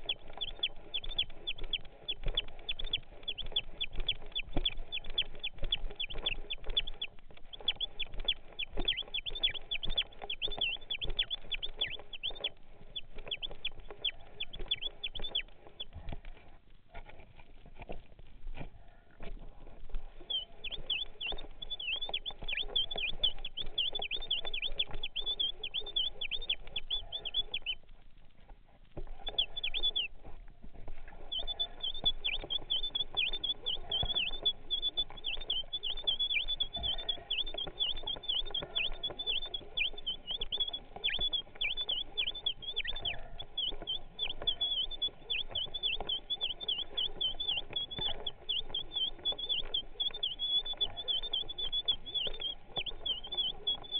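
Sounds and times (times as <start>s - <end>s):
quick downward chirps: 0.0s - 16.0s, 19.7s - 27.8s, 29.0s - 30.4s, 31.0s - 53.9s
faint crackling: 0.0s - 53.9s.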